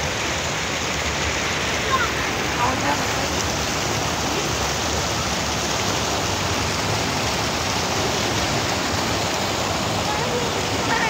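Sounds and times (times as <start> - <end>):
river water rushing over edge: 0.0 - 11.0.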